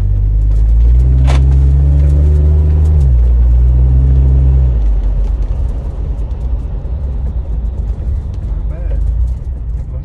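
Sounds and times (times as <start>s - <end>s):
car engine droning under throttle: 0.0s - 10.0s.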